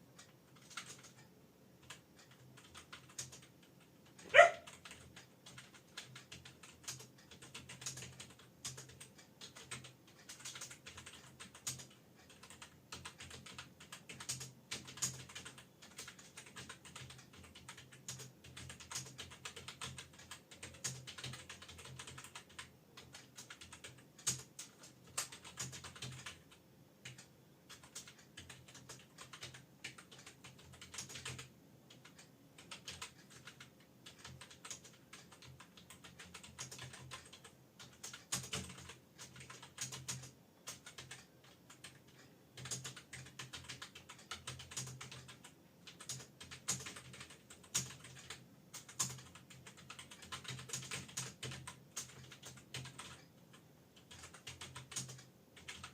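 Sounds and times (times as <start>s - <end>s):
fast keyboard typing: 0.2s - 55.9s.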